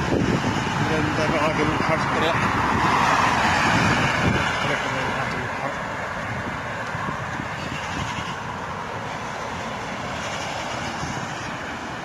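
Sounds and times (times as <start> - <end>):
road noise low rumble: 0.0 - 12.0
rushing wind: 0.0 - 12.0.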